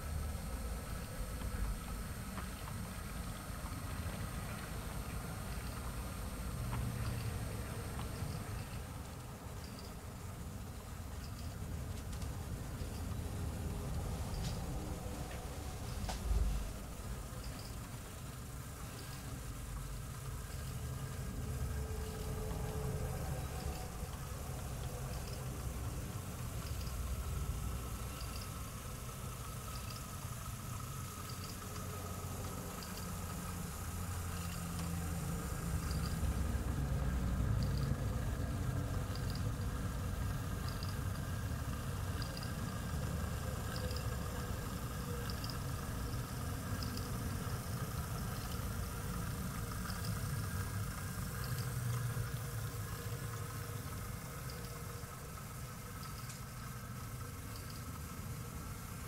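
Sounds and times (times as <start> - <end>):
model train rumbling: 0.0 - 59.0
faint regular ticks: 0.3 - 59.0.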